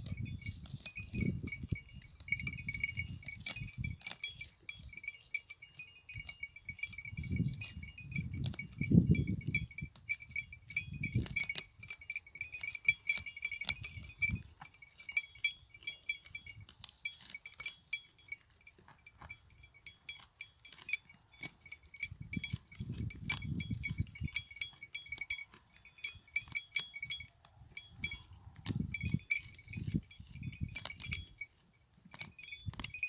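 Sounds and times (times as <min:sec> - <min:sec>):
goats chewing dry grass: 0:00.0 - 0:33.0.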